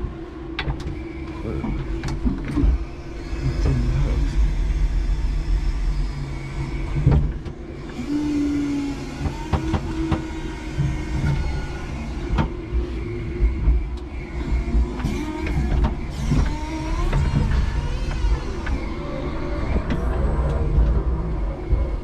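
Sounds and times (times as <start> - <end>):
electric motors humming: 0.0 - 22.0.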